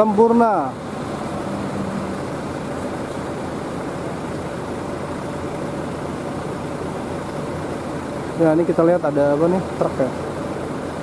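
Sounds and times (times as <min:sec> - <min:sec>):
traffic on wet road: 0:00.0 - 0:11.0.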